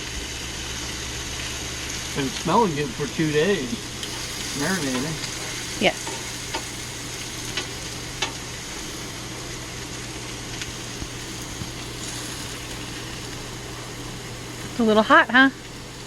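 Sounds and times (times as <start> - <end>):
chicken sizzling: 0.0 - 16.0.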